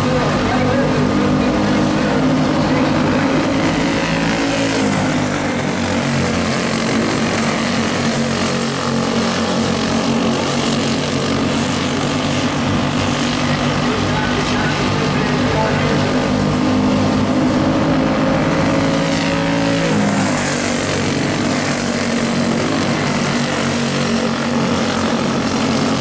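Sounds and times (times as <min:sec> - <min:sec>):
racing kart engines droning: 0:00.0 - 0:26.0.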